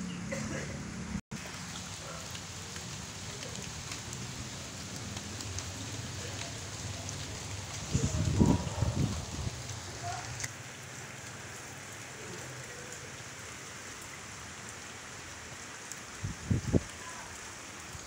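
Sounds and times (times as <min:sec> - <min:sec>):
rain on water and concrete: 0:00.3 - 0:18.0.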